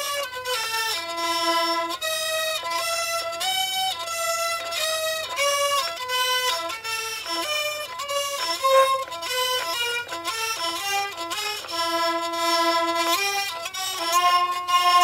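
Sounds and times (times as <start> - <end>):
hurdy-gurdy melody: 0.0 - 15.0.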